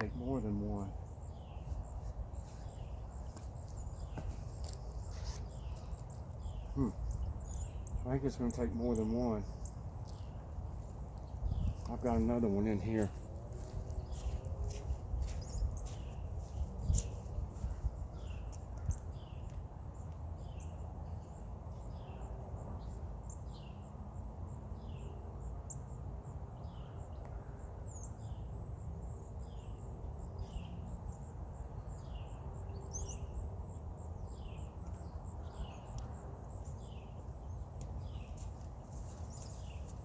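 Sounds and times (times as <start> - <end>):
low rumble of wind: 0.0 - 40.0.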